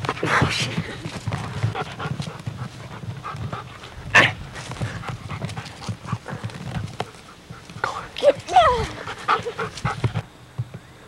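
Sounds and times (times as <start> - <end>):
puppy panting: 0.0 - 4.0, 4.6 - 10.3.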